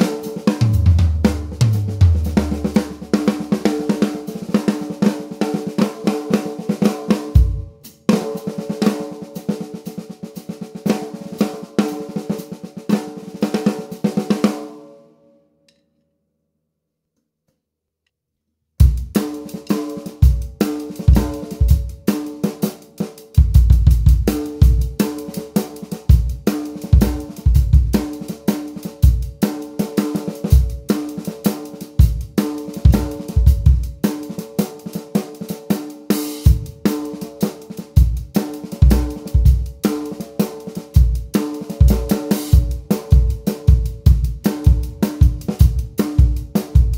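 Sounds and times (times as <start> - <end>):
snare drum passage: 0.0 - 14.6, 18.9 - 46.9
drum kit groove: 0.0 - 14.7, 18.8 - 46.9.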